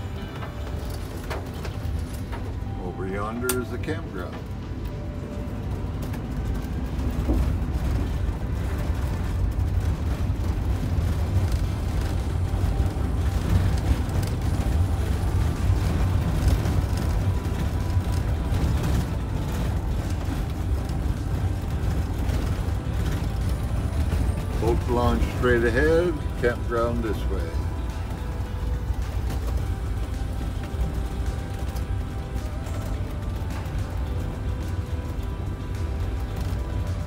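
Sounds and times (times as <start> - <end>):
low engine rumble: 0.0 - 37.0
tyres on gravel: 0.0 - 37.0.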